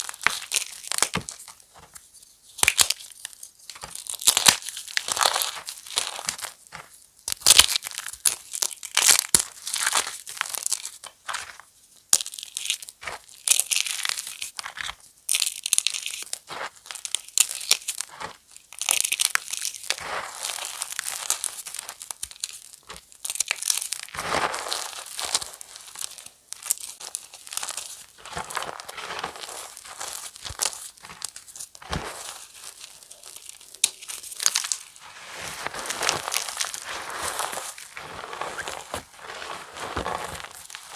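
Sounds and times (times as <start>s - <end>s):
chalk crushing: 0.0s - 40.9s.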